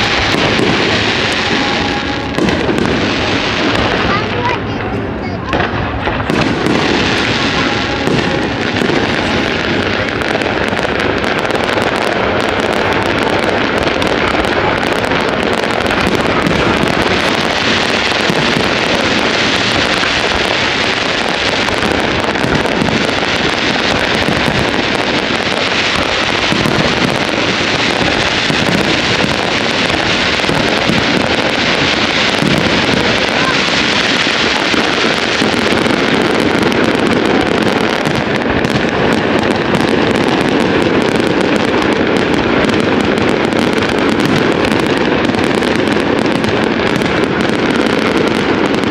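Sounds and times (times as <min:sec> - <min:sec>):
fireworks crackling: 0:00.0 - 0:48.9.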